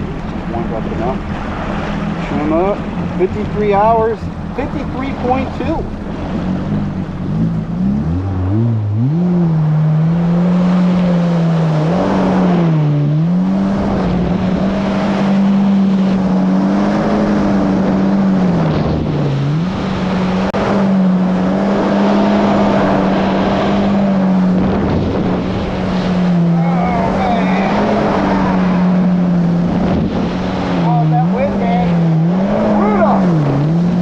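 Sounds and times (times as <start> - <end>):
jet ski engine accelerating: 0.0 - 34.0.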